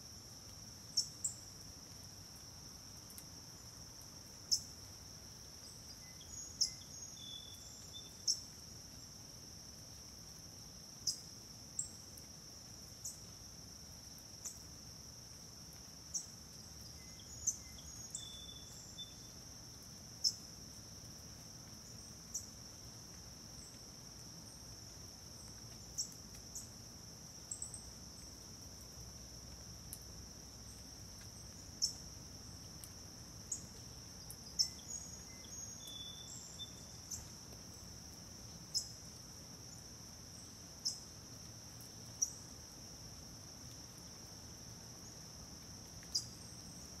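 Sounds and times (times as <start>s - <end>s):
insect chorus drone: 0.0s - 47.0s.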